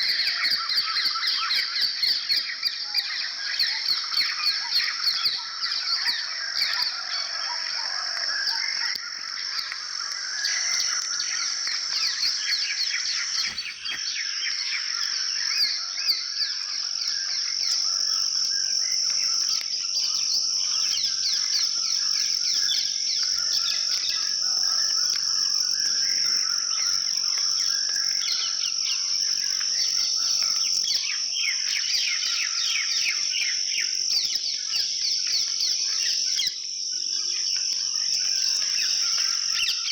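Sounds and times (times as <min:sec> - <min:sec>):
insects droning: 0:00.0 - 0:39.9
small birds chirping: 0:00.0 - 0:39.9.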